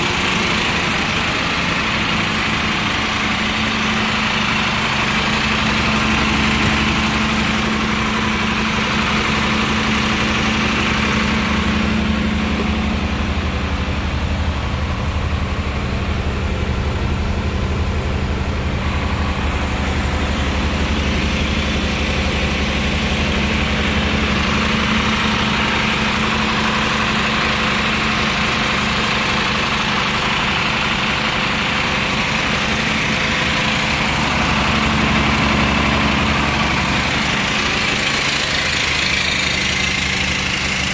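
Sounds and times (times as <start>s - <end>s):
diesel truck engine idling: 0.0s - 40.9s.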